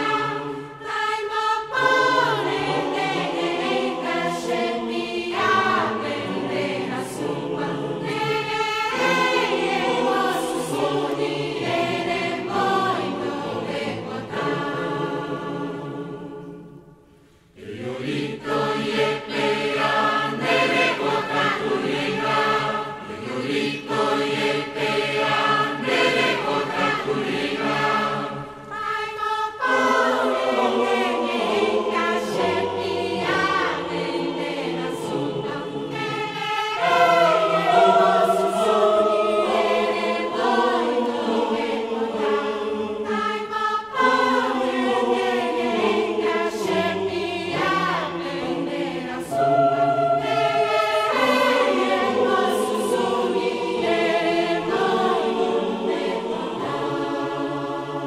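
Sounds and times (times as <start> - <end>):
choir singing a chant: 0.0 - 58.0.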